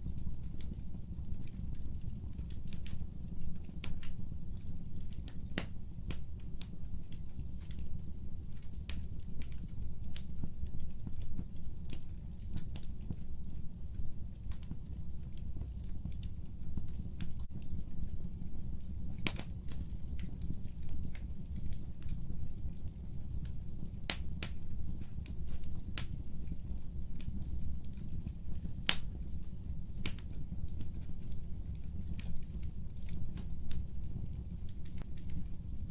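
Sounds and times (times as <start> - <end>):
fire crackling and popping: 0.0 - 35.9
low rumble of flames: 0.0 - 35.9.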